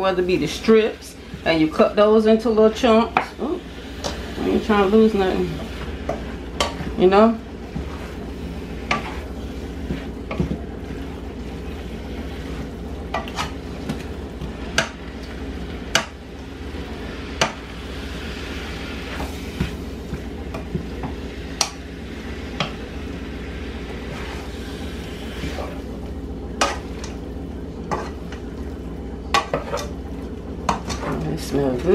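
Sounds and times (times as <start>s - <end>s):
food sizzling: 0.0s - 29.8s.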